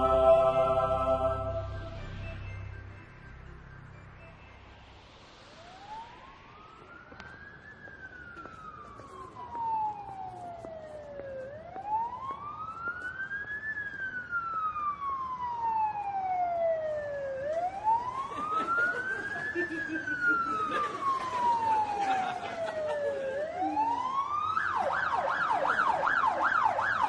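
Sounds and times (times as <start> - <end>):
ambulance siren wailing: 0.0 - 27.0.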